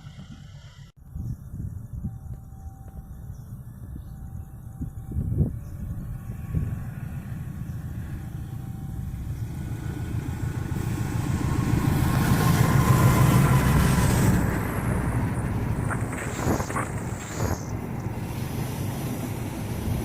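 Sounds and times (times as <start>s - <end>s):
train passing with low rumble: 0.0s - 20.0s.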